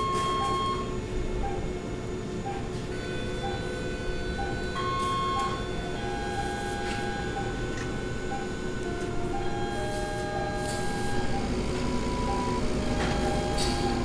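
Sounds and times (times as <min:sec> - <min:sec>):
electronic hum and low rumble: 0:00.0 - 0:14.0.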